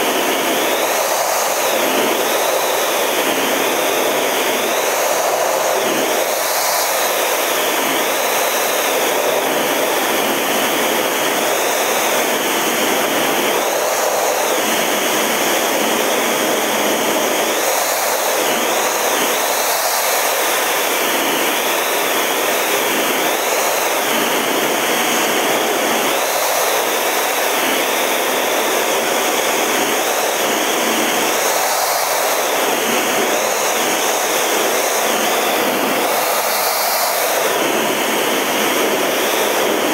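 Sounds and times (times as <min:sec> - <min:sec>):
jet cockpit engine and airflow rush: 0:00.0 - 0:39.9.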